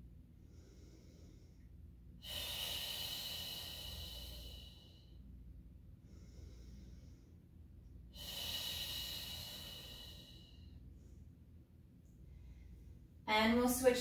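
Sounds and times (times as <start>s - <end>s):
woman breathing deeply: 0.2s - 11.6s.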